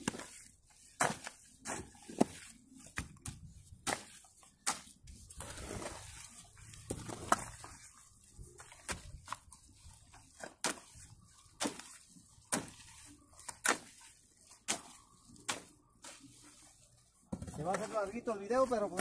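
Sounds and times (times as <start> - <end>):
hoe chopping through wet mud: 0.0 - 7.9, 8.6 - 9.5, 10.2 - 16.2, 17.4 - 19.0.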